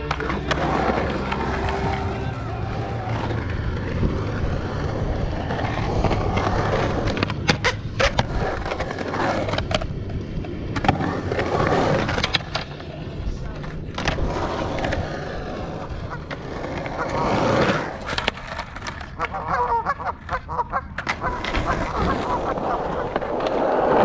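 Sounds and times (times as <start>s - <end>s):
skateboard clacks: 0.0s - 24.0s
skateboard wheels rolling on concrete: 0.0s - 24.0s.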